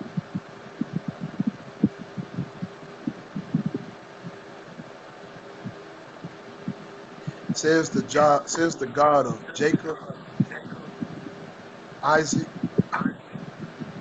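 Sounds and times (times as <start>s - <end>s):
soft low thumps: 0.0s - 11.6s, 12.4s - 14.0s
low hum and hiss: 0.0s - 14.0s.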